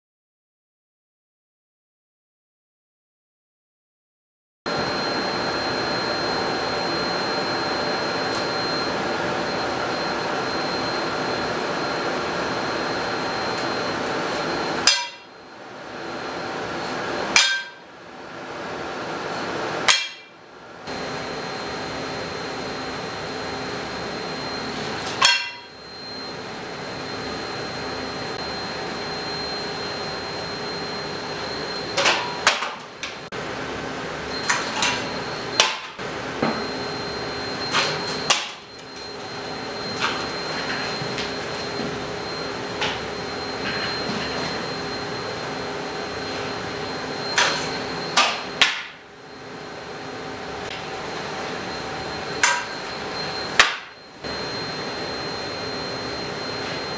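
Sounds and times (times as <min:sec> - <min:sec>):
machine hum with high whine: 0:04.7 - 0:56.9.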